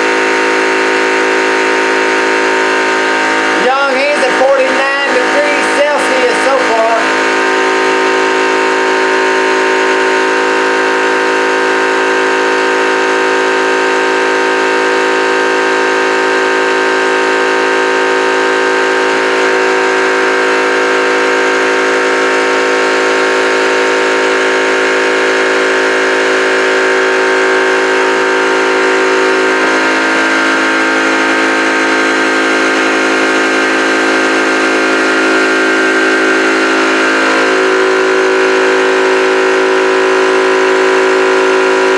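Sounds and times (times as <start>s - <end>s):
air compressor running: 0.0s - 41.9s.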